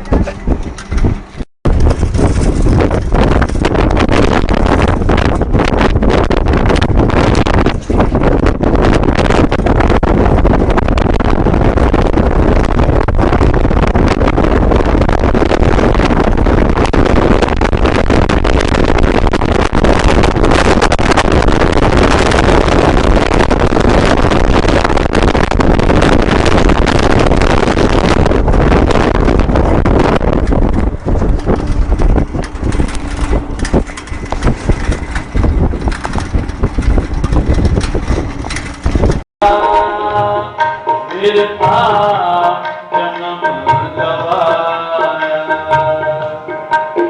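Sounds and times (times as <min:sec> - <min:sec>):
wind buffeting microphone: 0:00.0 - 0:39.3
moving vehicle rumbling: 0:00.0 - 0:43.0.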